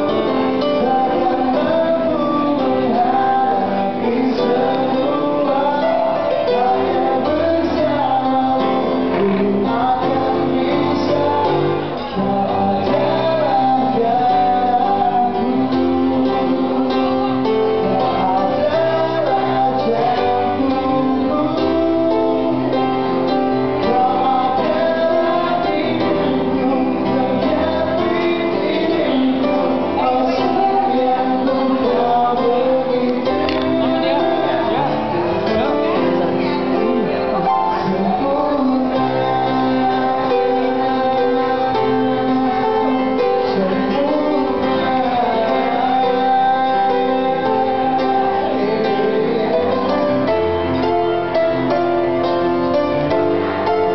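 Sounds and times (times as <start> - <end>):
guitar accompaniment: 0.0 - 53.9
man singing pop ballad: 0.0 - 53.9.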